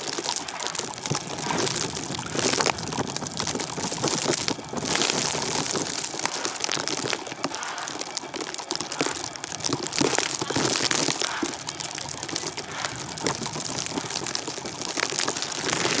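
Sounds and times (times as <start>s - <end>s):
blowing snow hissing: 0.0s - 16.0s
crackling and crunching: 0.0s - 16.0s.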